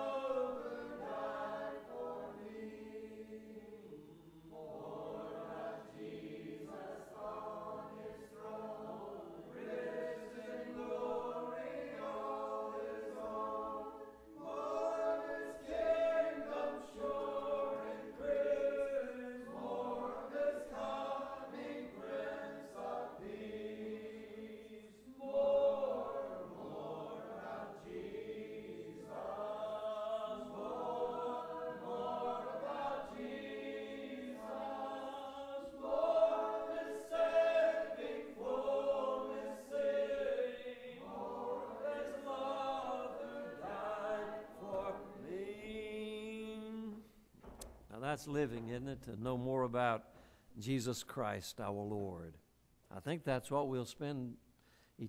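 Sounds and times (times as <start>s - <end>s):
congregation singing a hymn: 0.0s - 48.9s.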